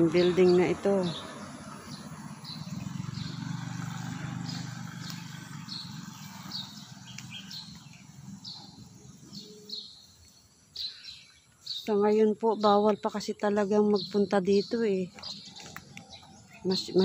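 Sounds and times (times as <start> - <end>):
passing traffic engine hum: 0.0 - 10.7, 13.6 - 17.0.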